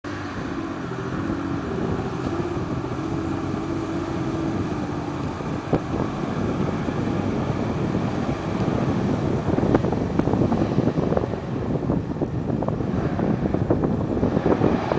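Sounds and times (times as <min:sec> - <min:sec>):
truck engine running under load: 0:00.1 - 0:14.9
wheels churning water: 0:00.1 - 0:14.9
wind on microphone: 0:00.1 - 0:14.9.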